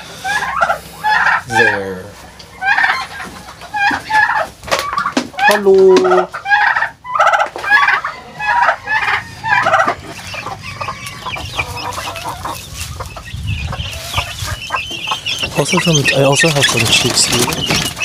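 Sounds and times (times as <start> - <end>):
turkeys gobbling: 0.0 - 18.0.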